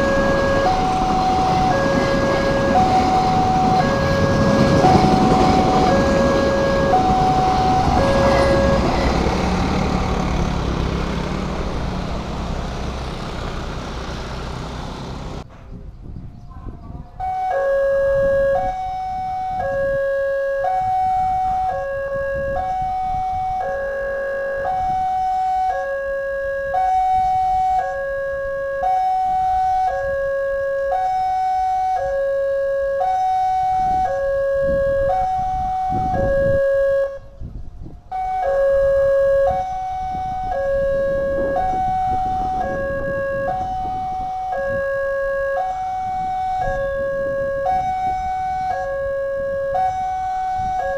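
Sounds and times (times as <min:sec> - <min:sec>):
level crossing two-tone alarm: 0:00.0 - 0:10.2, 0:17.2 - 0:37.3, 0:38.1 - 0:50.9.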